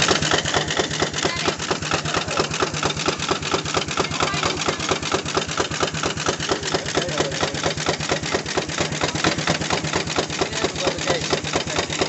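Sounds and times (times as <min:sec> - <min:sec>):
steam engine exhaust beat: 0:00.0 - 0:12.0.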